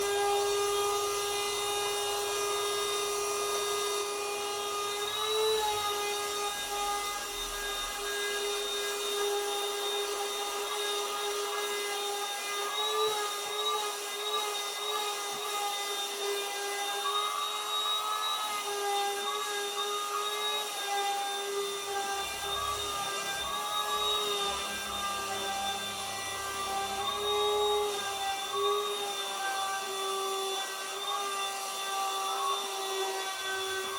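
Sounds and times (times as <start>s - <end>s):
small electric motor whine: 0.0s - 33.9s.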